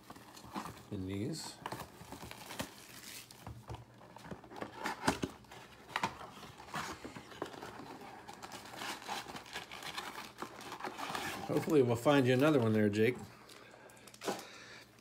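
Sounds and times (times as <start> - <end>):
cardboard box crinkling: 0.0 - 3.4, 4.0 - 13.0.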